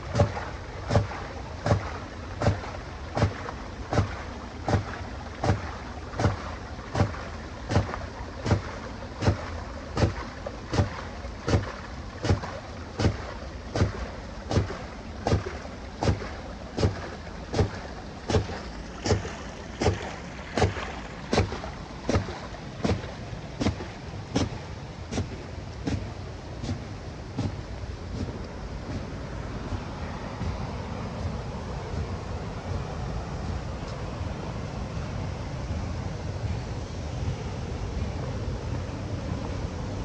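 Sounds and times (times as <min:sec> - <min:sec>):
water rushing: 0:00.0 - 0:40.0.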